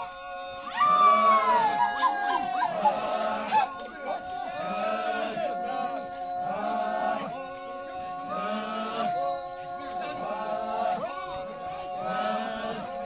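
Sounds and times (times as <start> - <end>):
voices chanting: 0.0 - 13.0.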